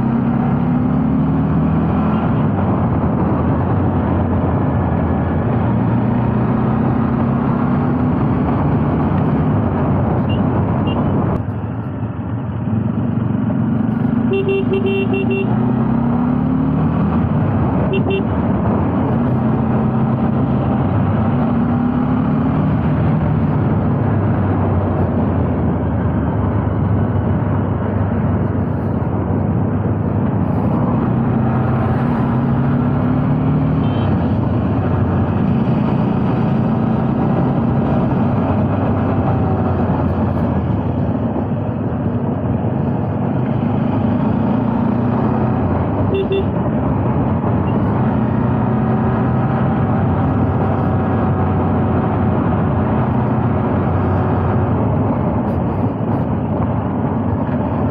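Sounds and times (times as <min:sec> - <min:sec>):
motorcycle engine revving: 0:00.0 - 0:11.0, 0:12.6 - 0:27.2, 0:30.0 - 0:57.9
wind and road noise: 0:00.0 - 0:57.9.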